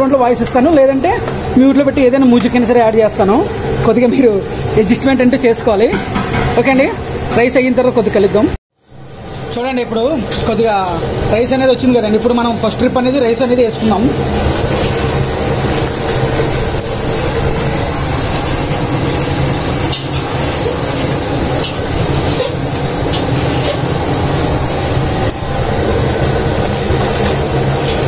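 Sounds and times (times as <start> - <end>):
gas burner roaring: 0.0 - 28.0.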